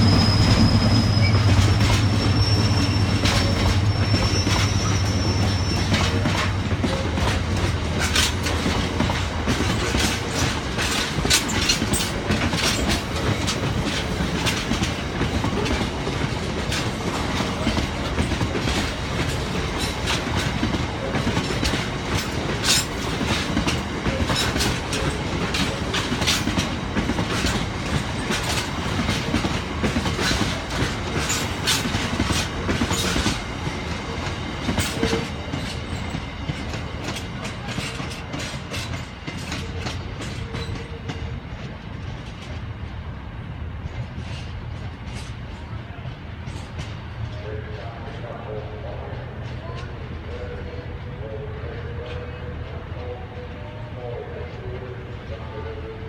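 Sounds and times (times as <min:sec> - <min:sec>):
train wheels clicking over rail joints: 0:00.0 - 0:47.5
train rumble: 0:00.0 - 0:56.0.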